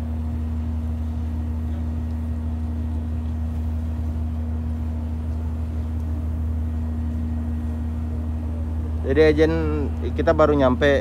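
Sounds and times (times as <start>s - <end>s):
constant humming tone: 0.0s - 11.0s
marine engines droning: 0.0s - 11.0s.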